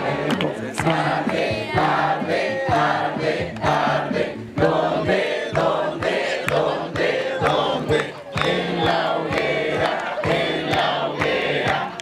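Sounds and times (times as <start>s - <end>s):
group chanting in unison: 0.0s - 12.0s.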